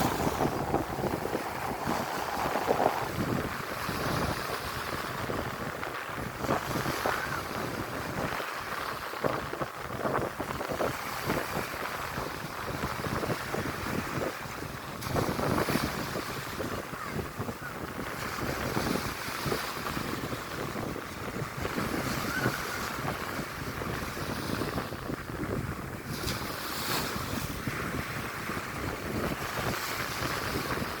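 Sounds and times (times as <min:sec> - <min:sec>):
surf washing onto beach: 0:00.0 - 0:31.0
wind buffeting microphone: 0:00.0 - 0:31.0.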